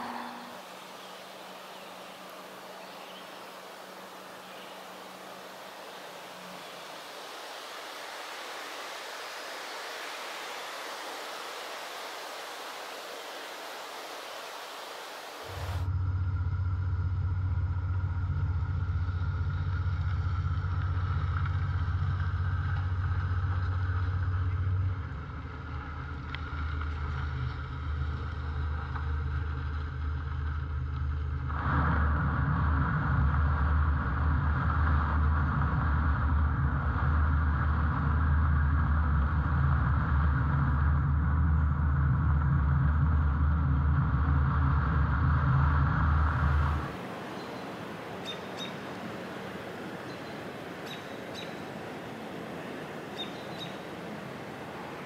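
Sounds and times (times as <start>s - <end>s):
vehicle engine drone: 0.0s - 55.0s.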